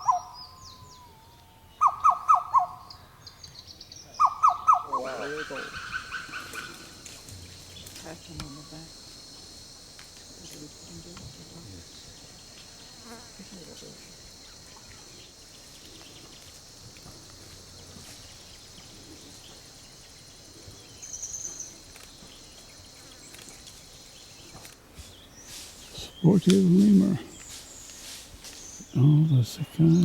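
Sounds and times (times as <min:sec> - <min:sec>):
cicadas buzzing: 0:00.0 - 0:30.0.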